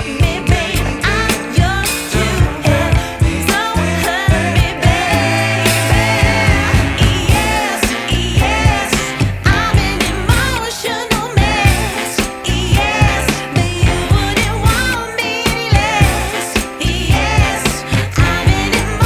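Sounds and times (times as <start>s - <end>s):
song with singing over beat: 0.0s - 19.0s.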